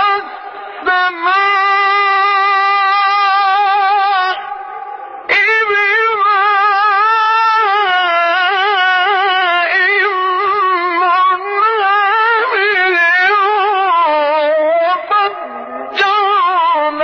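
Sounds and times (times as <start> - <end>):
man chanting melismatic recitation: 0.0 - 17.0.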